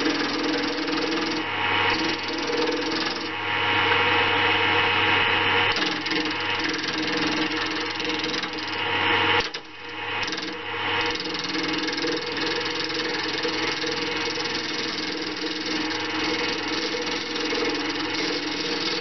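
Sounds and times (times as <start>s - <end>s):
gouge cutting spinning wood: 0.0s - 3.8s, 5.7s - 19.0s
lathe motor hum: 0.0s - 19.0s.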